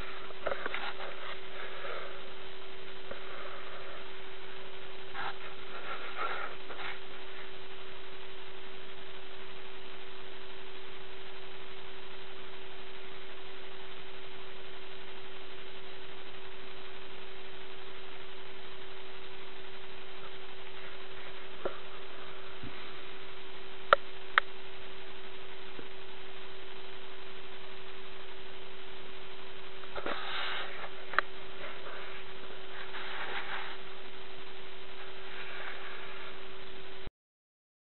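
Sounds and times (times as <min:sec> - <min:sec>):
even hiss: 0:00.0 - 0:37.1
faint scratchy sounds: 0:00.0 - 0:37.1
steady hum: 0:00.0 - 0:37.1.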